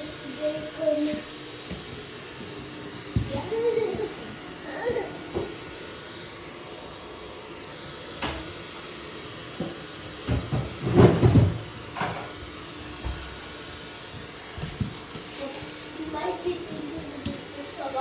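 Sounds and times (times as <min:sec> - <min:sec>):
robot vacuum humming: 0:00.0 - 0:18.0.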